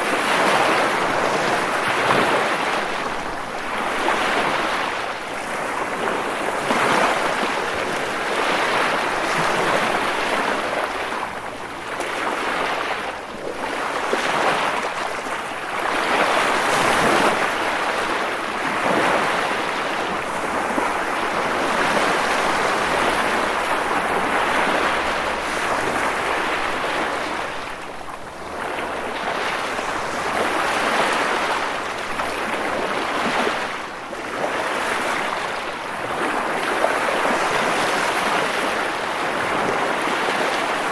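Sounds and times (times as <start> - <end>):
sea waves breaking against rocks: 0.0 - 40.9.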